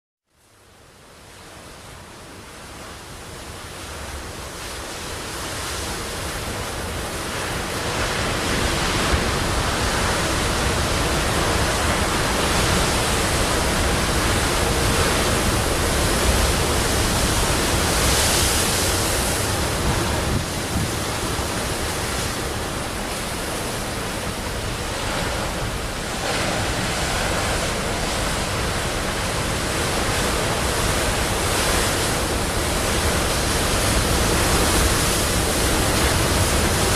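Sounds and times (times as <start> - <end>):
sea waves breaking: 3.0 - 36.9.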